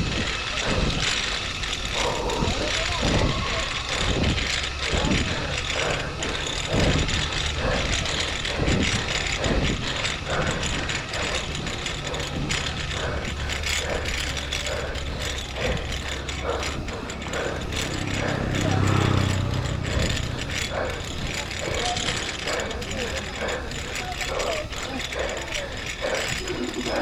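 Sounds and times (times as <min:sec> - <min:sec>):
bicycle freewheel ticking: 0:00.0 - 0:27.0
rush of air and road noise: 0:00.0 - 0:27.0.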